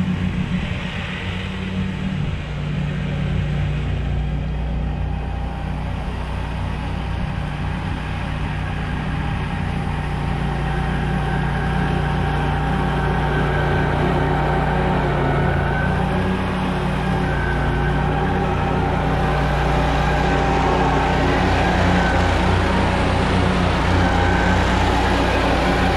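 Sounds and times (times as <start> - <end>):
truck engine idling: 0.0 - 25.9.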